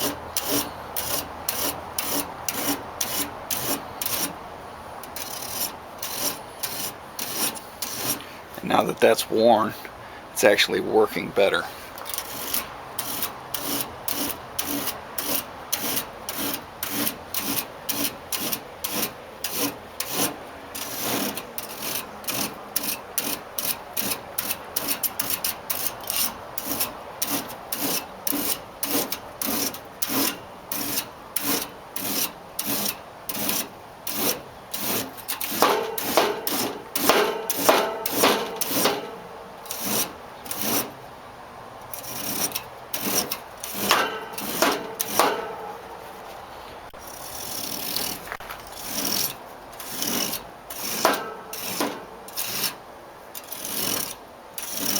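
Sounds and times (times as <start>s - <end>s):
comb scraping metal fins: 0.0s - 41.1s, 41.8s - 54.9s.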